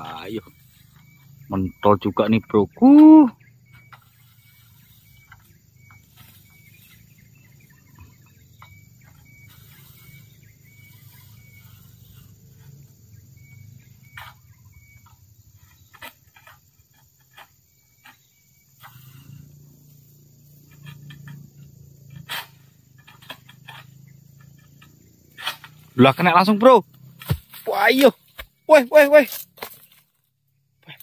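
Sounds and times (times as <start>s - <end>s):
bird chirping: 0.0s - 31.0s.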